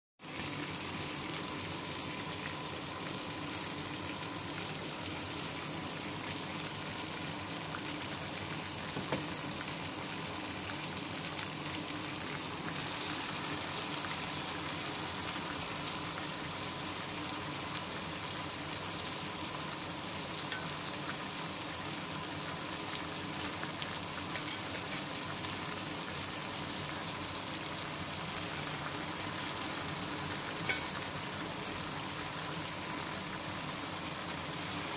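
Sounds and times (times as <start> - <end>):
vegetables sizzling in oil: 0.2 - 34.9.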